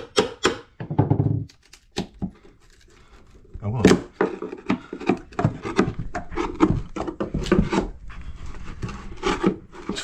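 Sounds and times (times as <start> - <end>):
hand tool scraping: 1.5 - 10.0.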